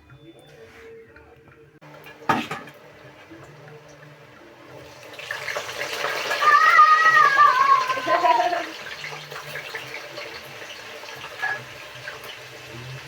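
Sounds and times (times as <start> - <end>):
potato chips sizzling in oil: 1.8 - 13.0.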